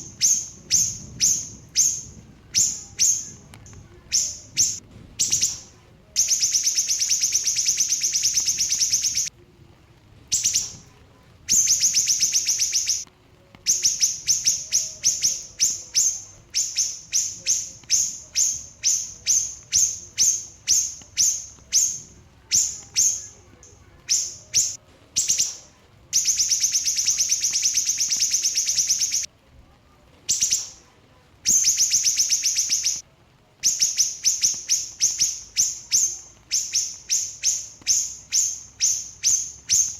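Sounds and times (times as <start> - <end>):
bird singing high trills: 0.0 - 9.3, 11.5 - 13.0, 13.7 - 25.6, 26.2 - 29.3, 31.5 - 33.0, 33.6 - 39.9.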